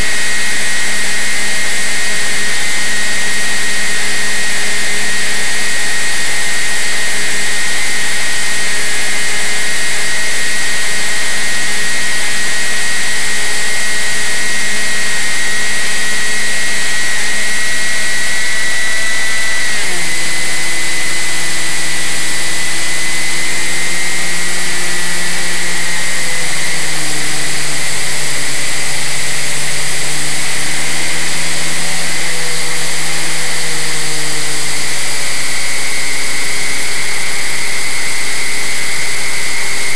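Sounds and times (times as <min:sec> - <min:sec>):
aircraft propeller motor: 0:00.0 - 0:39.9.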